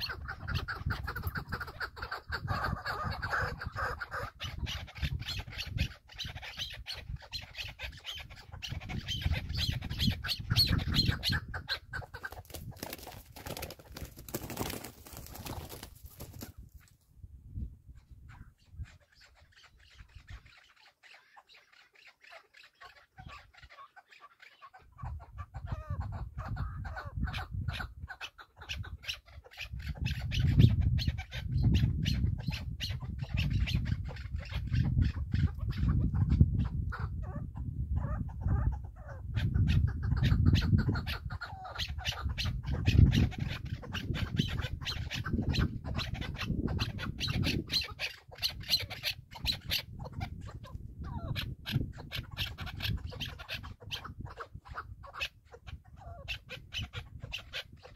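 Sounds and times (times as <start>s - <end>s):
ground bird clucking: 0.0s - 17.0s, 17.9s - 57.9s.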